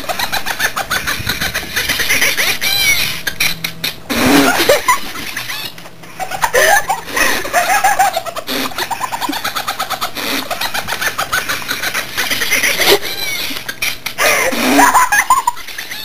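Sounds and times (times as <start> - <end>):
woman laughing hard: 0.0 - 16.0.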